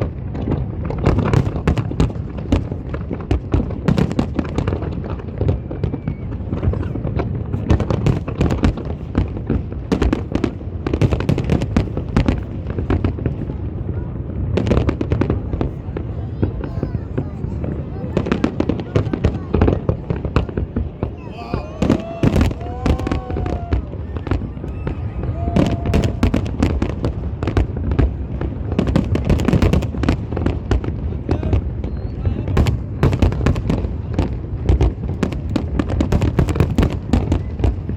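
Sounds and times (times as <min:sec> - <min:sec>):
firework bangs and crackles: 0:00.0 - 0:37.9.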